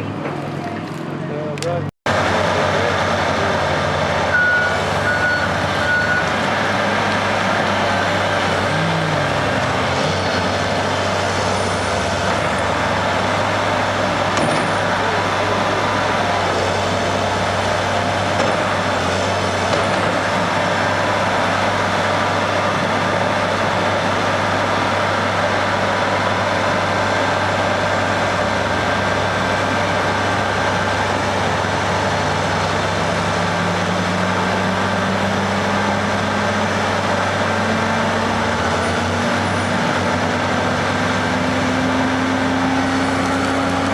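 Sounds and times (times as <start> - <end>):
road noise: 0.0 - 43.9
vehicle engine running: 1.6 - 43.9.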